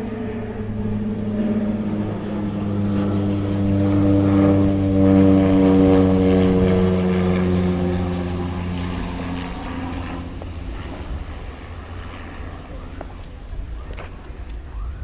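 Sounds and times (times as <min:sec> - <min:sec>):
propeller aircraft passing overhead: 0:00.0 - 0:15.0.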